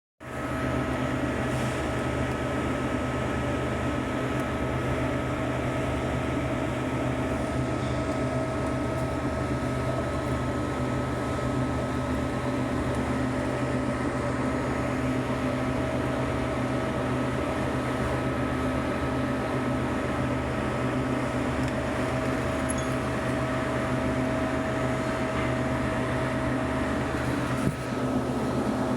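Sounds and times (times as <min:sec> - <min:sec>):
machine humming with steady whine: 0:00.2 - 0:28.9.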